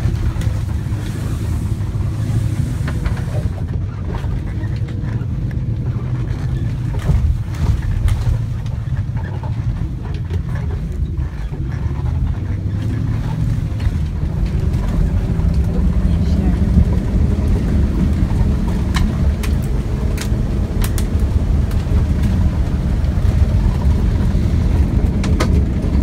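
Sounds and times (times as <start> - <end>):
knocks and rattles from bumps: 0.0 - 26.0
vehicle engine running: 0.0 - 26.0.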